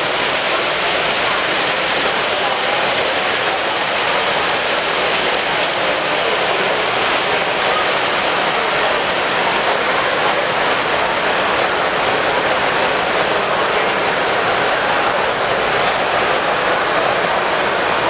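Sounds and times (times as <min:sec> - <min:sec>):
crowd of people talking: 0:00.0 - 0:18.0.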